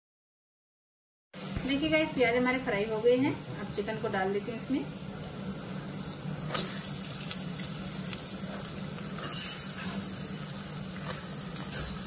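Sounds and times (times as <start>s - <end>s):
onions sizzling in hot oil: 1.4s - 12.0s.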